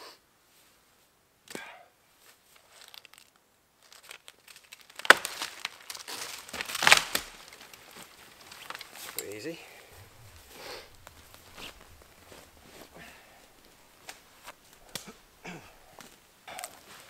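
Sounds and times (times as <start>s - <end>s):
branches cracking: 2.2s - 17.0s
splintering crackling wood: 2.6s - 17.0s.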